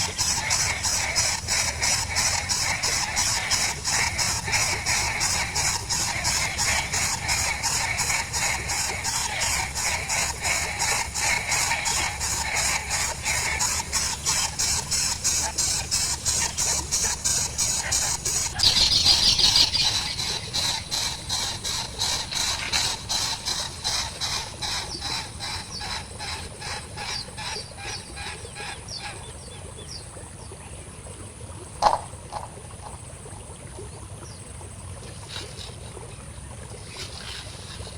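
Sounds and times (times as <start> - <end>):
nestling birds begging: 0.0 - 30.0, 35.2 - 35.9, 36.8 - 37.9.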